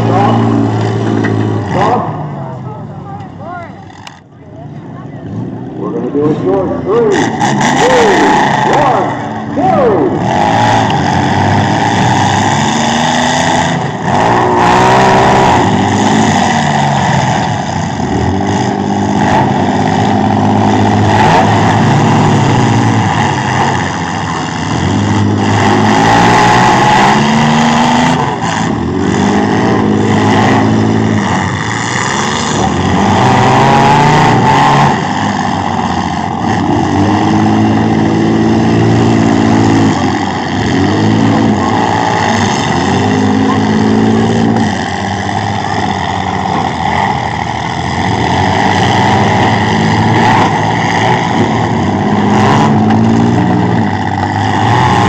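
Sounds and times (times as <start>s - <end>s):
engines revving at full throttle: 0.0s - 55.0s.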